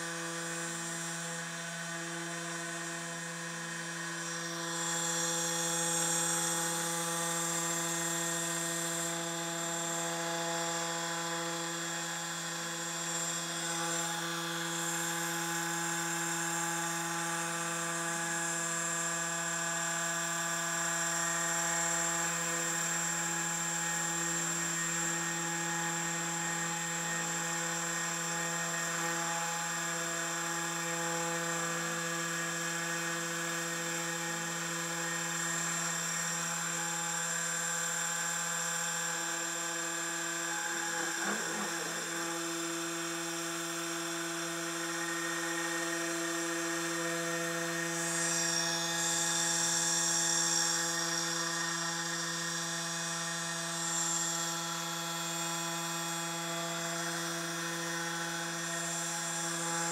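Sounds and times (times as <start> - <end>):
engraving machine motors whining: 0.1 - 59.9.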